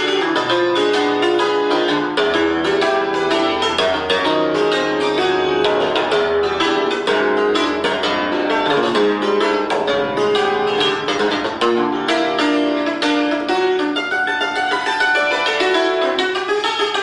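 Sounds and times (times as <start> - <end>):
cimbalom struck notes: 0.0 - 16.1.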